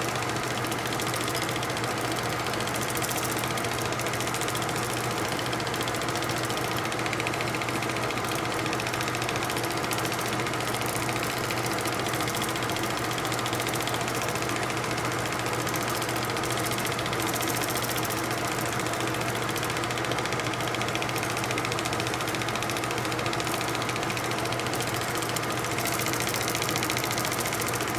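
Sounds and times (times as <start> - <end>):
film projector whirring: 0.0 - 27.9.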